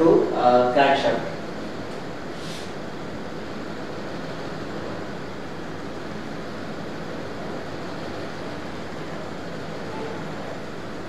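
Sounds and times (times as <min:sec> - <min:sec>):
background hiss and hum: 0:00.0 - 0:11.0.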